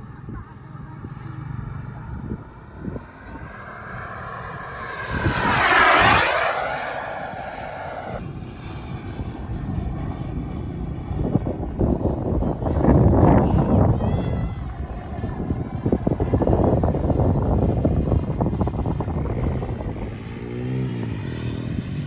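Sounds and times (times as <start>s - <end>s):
wind rumbling on microphone: 0.0s - 22.0s
model jet turbine whining: 1.8s - 20.1s.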